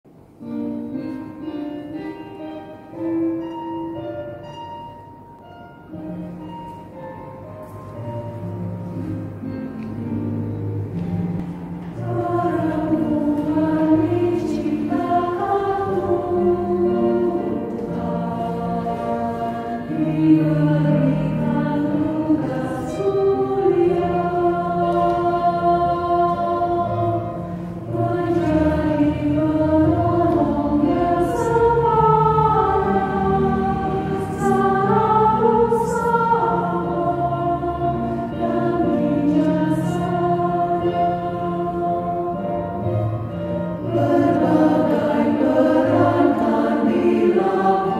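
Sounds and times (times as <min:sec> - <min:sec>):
women's choir singing a hymn: 0:07.9 - 0:47.9.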